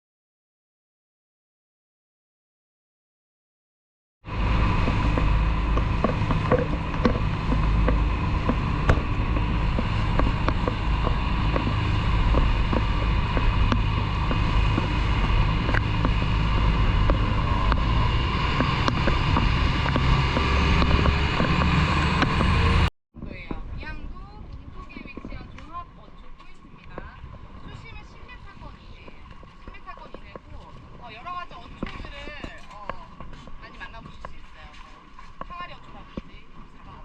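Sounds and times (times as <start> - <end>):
boat engine running: 4.2 - 37.0.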